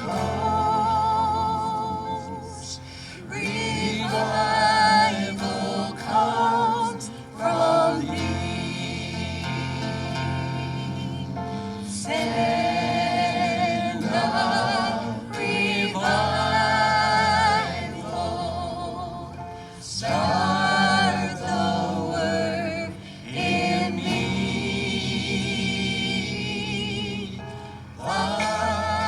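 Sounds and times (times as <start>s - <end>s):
group singing a gospel hymn: 0.0s - 29.0s
sustained instrumental accompaniment: 0.0s - 29.0s.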